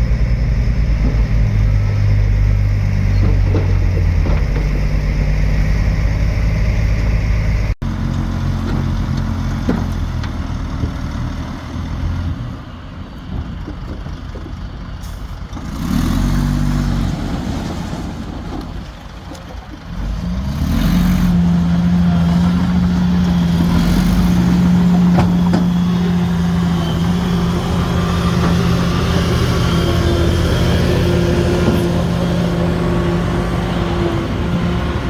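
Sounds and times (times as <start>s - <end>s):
heavy diesel engines droning: 0.0s - 35.0s.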